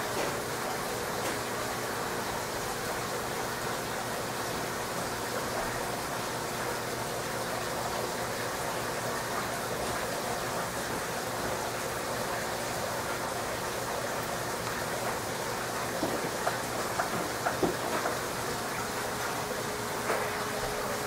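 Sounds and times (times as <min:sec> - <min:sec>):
rushing aquarium filter water: 0:00.0 - 0:21.0.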